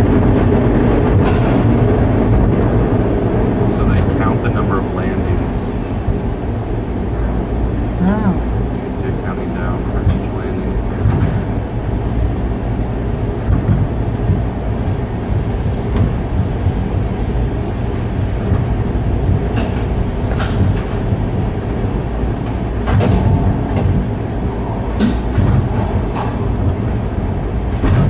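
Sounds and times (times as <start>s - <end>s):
tram capsule rumbling on track: 0.0s - 28.0s.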